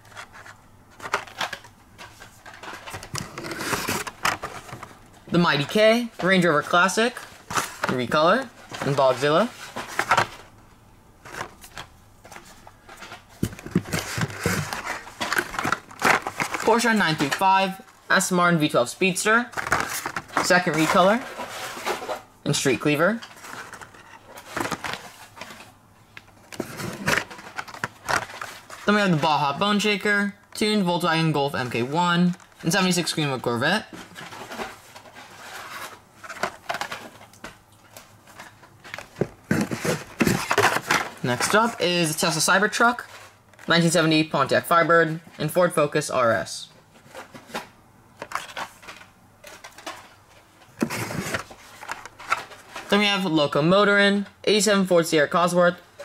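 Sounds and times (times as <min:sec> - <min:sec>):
plastic and cardboard rustling: 0:00.0 - 0:10.6, 0:11.2 - 0:54.2.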